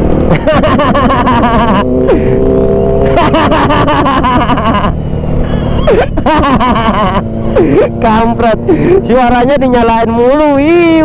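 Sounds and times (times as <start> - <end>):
motorcycle engine and riding noise: 0.0 - 11.0.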